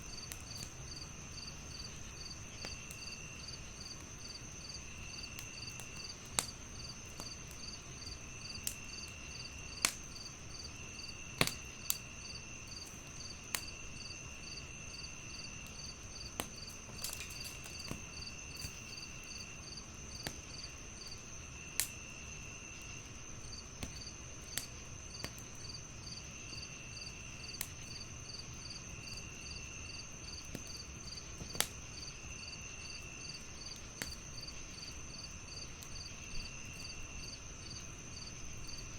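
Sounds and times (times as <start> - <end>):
wood fire crackling and popping: 0.0 - 26.0, 26.7 - 38.9
crickets chirping: 0.0 - 38.9.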